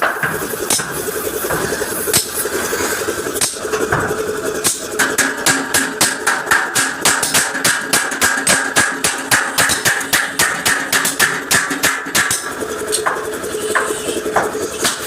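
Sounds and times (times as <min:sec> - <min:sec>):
hammer striking metal bumper: 0:00.0 - 0:02.5, 0:03.4 - 0:15.0.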